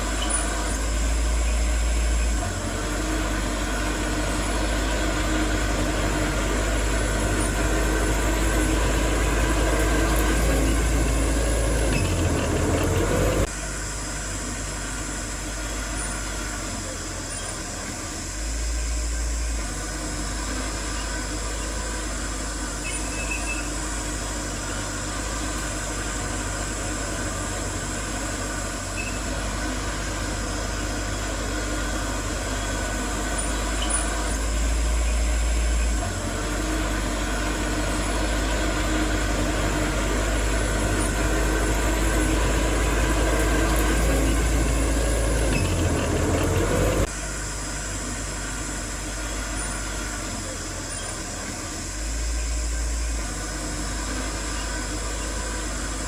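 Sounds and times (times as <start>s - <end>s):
heavy machinery diesel rumble: 0.0s - 56.0s.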